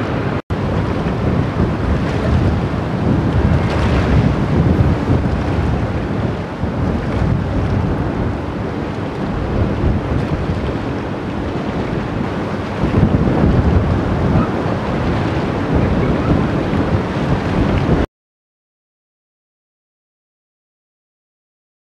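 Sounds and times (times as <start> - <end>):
river water rushing: 0.0 - 17.8
wind buffeting microphone: 0.0 - 18.1.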